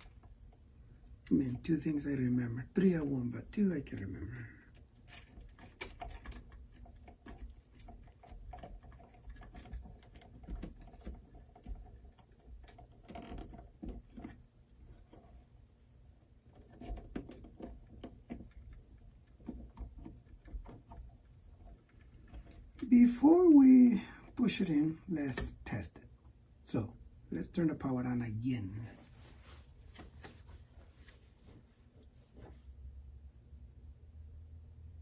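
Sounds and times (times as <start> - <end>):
clicks and rustles of wires: 0.0 - 25.9, 28.7 - 32.7.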